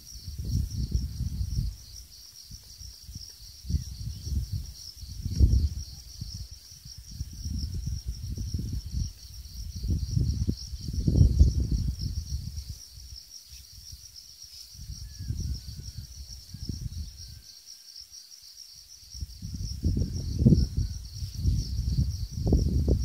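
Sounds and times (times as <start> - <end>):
wind buffeting microphone: 0.0 - 14.0, 14.7 - 17.4, 19.1 - 23.0
insects chirring: 0.0 - 23.0.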